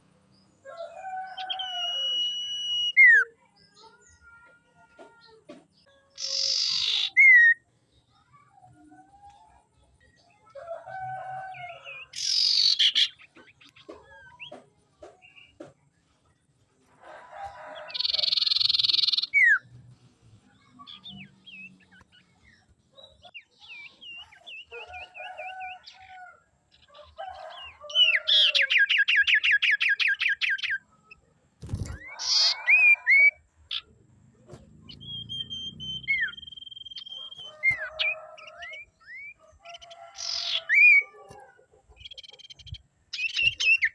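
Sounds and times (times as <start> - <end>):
bird calling and singing: 0.4 - 7.7, 8.8 - 15.8, 17.4 - 19.8, 20.4 - 43.9.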